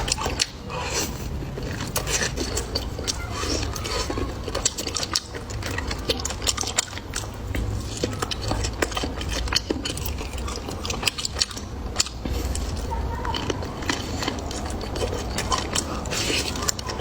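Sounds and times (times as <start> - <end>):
chewing: 0.0 - 17.0
utensils clicking against dishes: 0.0 - 17.0.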